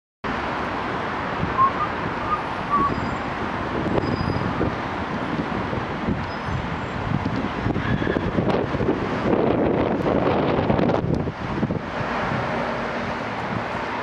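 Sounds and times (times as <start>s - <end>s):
road traffic rumble: 0.2s - 14.0s
wind buffeting microphone: 1.2s - 14.0s.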